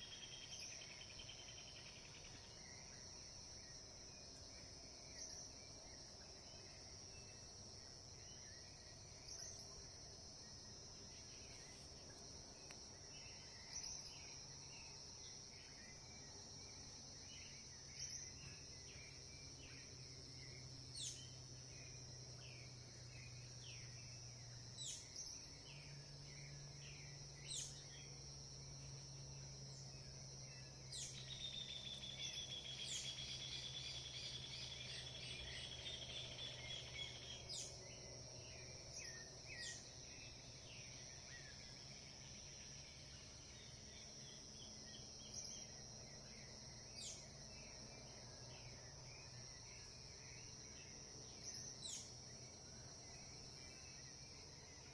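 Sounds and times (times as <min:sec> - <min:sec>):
bird singing a trill: 0:00.0 - 0:12.1, 0:13.0 - 0:54.9
insect chorus: 0:00.0 - 0:54.9.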